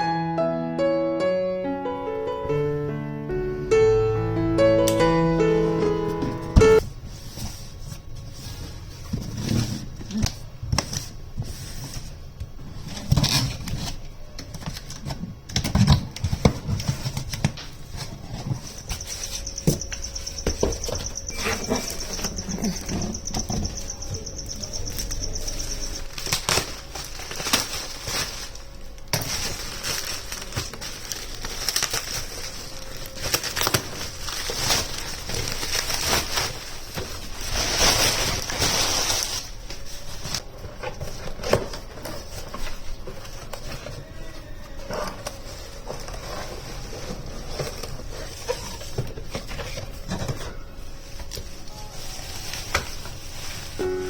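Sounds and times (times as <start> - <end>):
rustling: 5.8 - 54.0.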